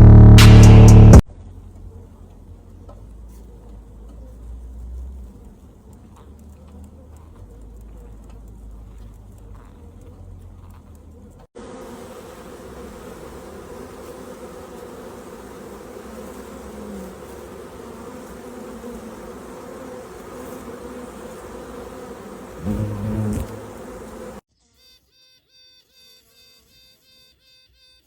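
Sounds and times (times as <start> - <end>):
low buzz of passing bee: 0.9 - 28.0
bees buzzing: 1.8 - 24.4.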